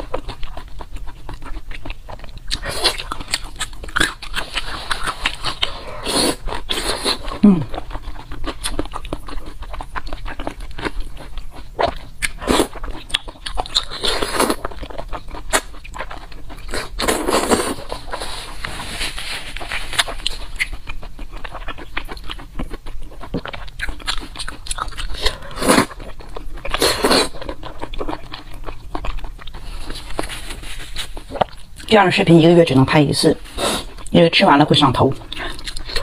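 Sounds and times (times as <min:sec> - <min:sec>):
wet chewing and mouth smacking: 0:00.0 - 0:18.8, 0:19.5 - 0:32.1, 0:35.0 - 0:36.0.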